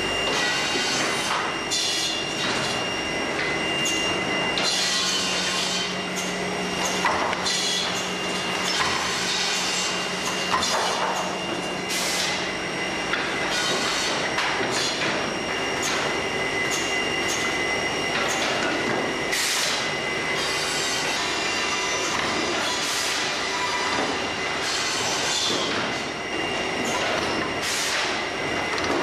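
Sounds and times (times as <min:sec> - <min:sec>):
saw machine whine: 0:00.0 - 0:28.8.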